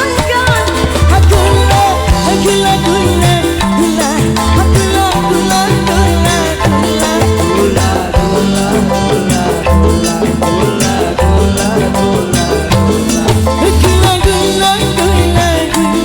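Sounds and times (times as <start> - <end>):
band music with steady beat: 0.0 - 16.0
melody line: 0.0 - 16.0
strong bass line: 0.0 - 16.0.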